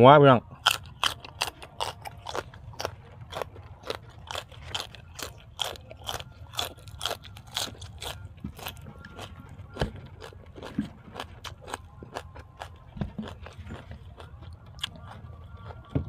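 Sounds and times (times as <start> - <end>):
person chewing crunchy food: 0.4 - 15.9.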